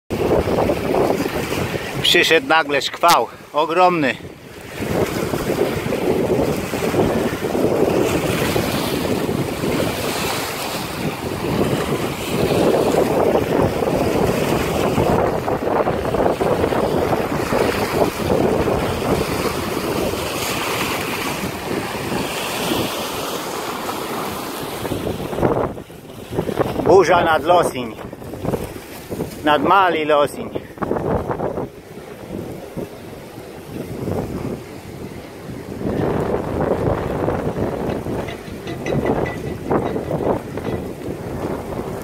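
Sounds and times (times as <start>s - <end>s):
wind gusting on microphone: 0.1s - 42.0s.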